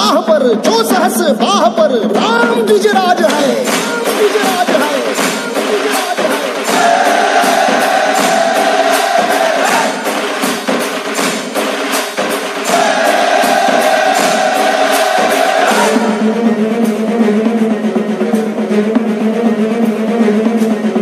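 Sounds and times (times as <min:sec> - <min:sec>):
percussion beat: 0:00.0 - 0:21.0.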